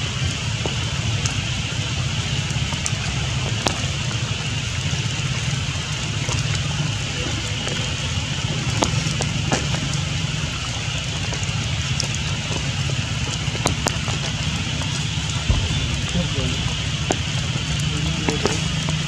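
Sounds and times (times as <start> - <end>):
rain hiss: 0.0 - 19.0
raindrops ticking: 0.0 - 19.0.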